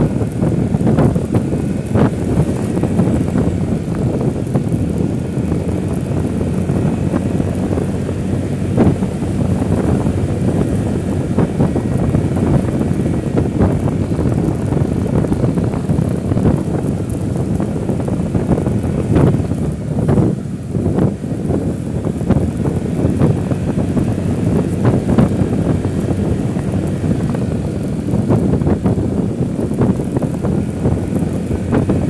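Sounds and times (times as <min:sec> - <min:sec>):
vehicle rumbling: 0:00.0 - 0:32.0
wind buffeting microphone: 0:00.0 - 0:32.0.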